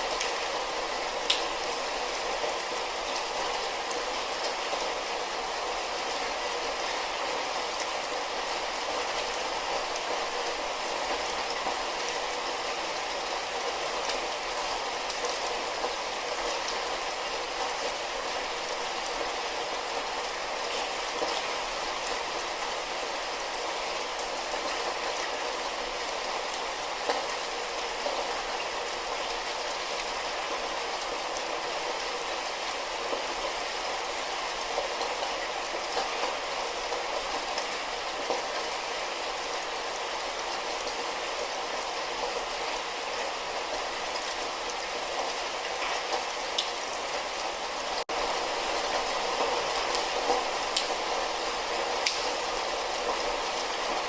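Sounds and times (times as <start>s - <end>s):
light rain: 0.0s - 54.0s.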